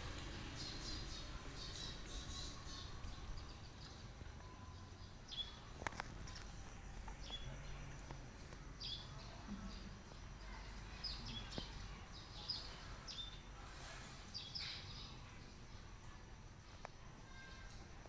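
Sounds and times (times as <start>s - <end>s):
small birds calling: 0.0s - 15.9s.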